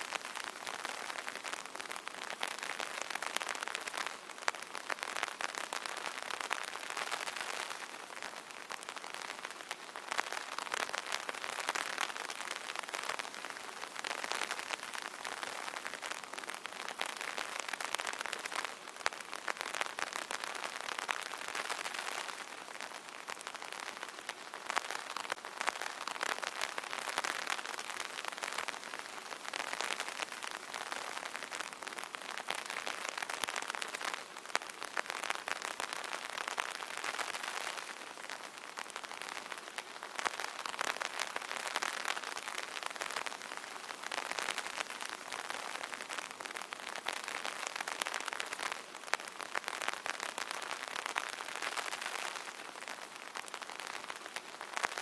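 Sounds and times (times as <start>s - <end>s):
light rain on an umbrella: 0.0s - 55.0s.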